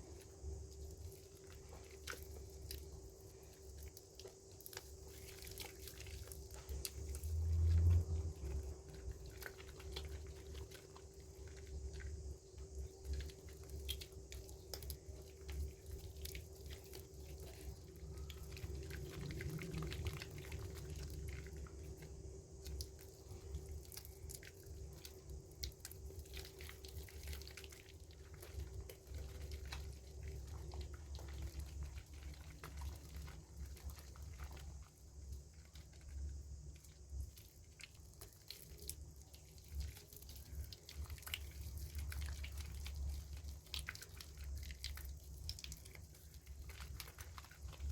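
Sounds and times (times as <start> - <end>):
low steady hum: 0.0 - 47.9
wet soap squishing and crackling: 0.0 - 47.9.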